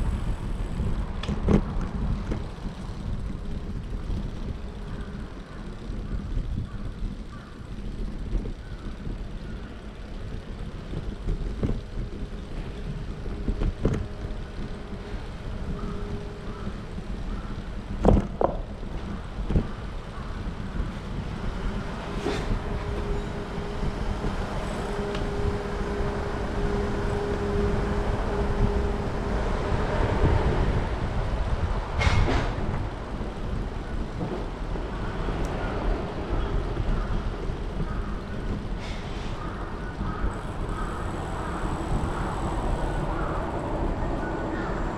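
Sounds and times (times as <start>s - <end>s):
held hum: 0.0s - 44.9s
low street rumble: 0.0s - 44.9s.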